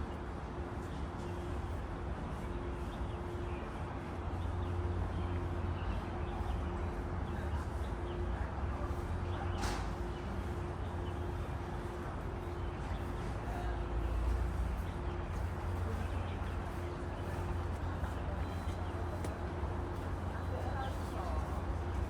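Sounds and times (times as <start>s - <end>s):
distant city traffic rumble: 0.0s - 22.0s.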